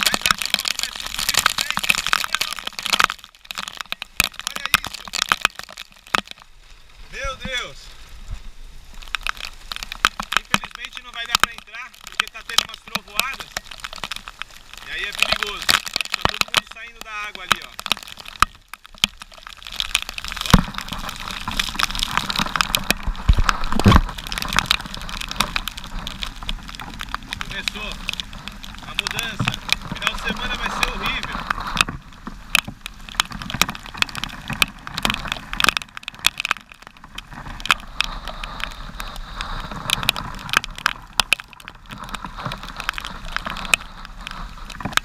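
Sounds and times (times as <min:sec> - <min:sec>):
raindrops hitting microphone: 0:00.0 - 0:45.0.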